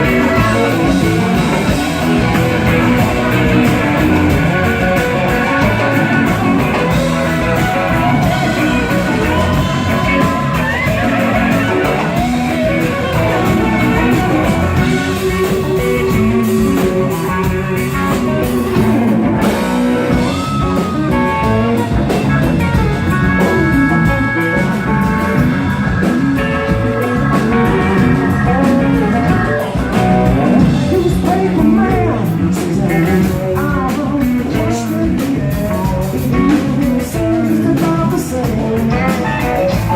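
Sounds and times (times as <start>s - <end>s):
person singing: 0.0s - 22.2s, 27.3s - 39.9s
guitar: 0.0s - 39.9s
live rock band playing: 0.0s - 39.9s.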